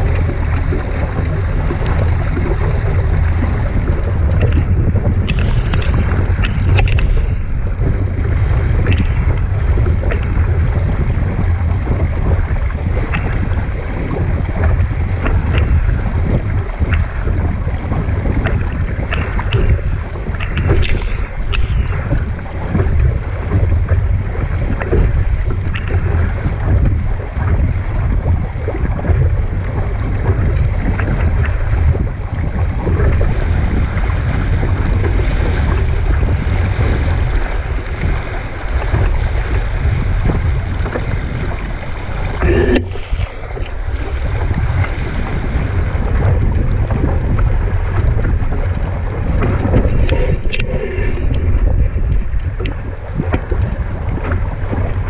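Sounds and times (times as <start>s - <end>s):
water splashing along hull: 0.0s - 55.0s
wind buffeting microphone: 0.0s - 55.0s.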